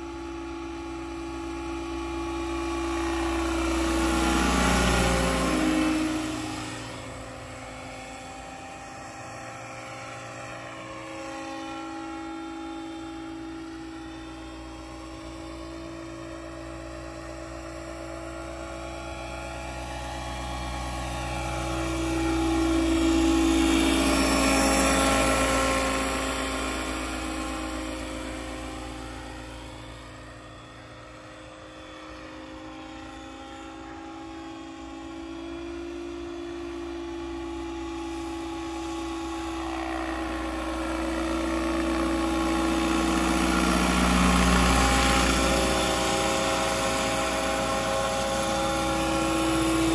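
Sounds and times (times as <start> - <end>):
model helicopter motor whine: 0.0 - 49.9.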